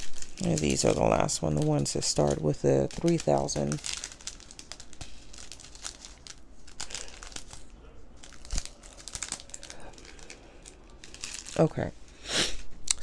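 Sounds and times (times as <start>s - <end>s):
plastic bags crinkling: 0.0s - 12.2s.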